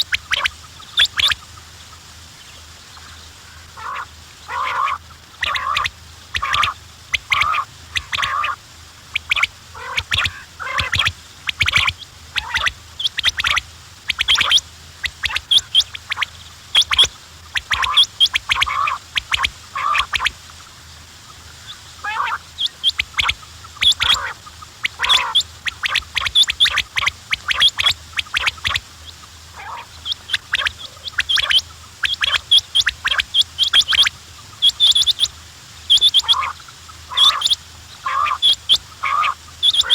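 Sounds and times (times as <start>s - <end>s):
quails calling: 0.0s - 39.9s.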